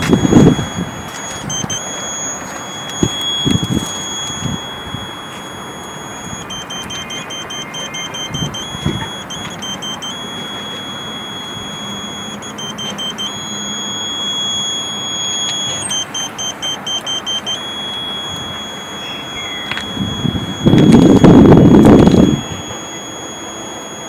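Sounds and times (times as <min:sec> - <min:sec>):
high-pitched buzzer tone and beeping: 0:00.0 - 0:24.0.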